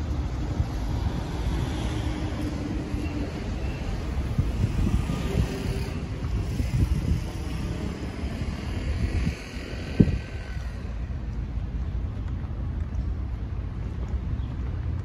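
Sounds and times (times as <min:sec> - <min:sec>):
street noise rumble: 0:00.0 - 0:15.0.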